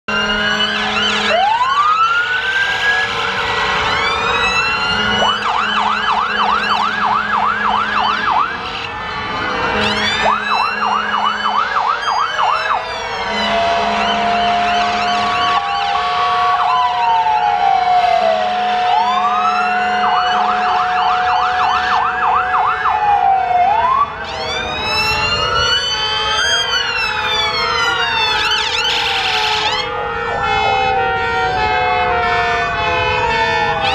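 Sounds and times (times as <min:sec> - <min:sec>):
horns blasting: 0:00.1 - 0:23.3, 0:24.0 - 0:33.9
fire engine sirens wailing: 0:00.1 - 0:33.9.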